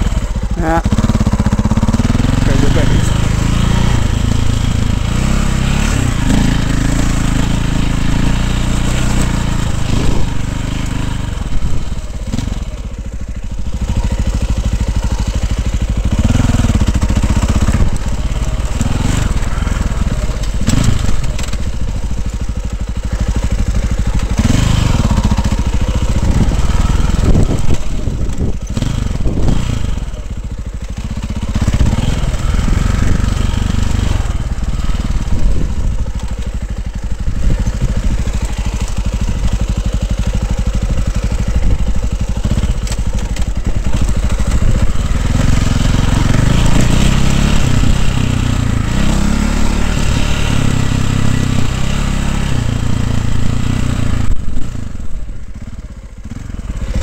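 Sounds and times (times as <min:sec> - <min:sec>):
dirt bike engine revving: 0:00.0 - 0:55.3, 0:56.2 - 0:57.0.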